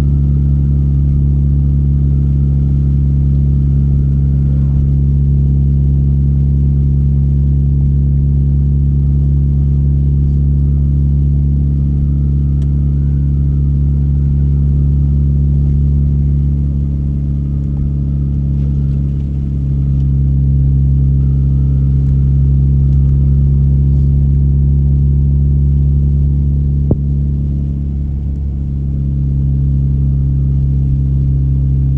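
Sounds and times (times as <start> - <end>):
car engine hum: 0.0 - 31.9
road rumble: 0.0 - 31.9.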